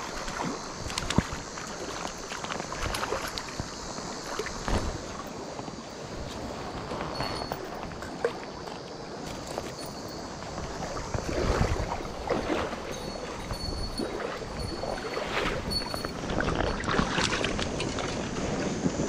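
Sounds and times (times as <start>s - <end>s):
fish splashing in shallow water: 0.0s - 19.0s.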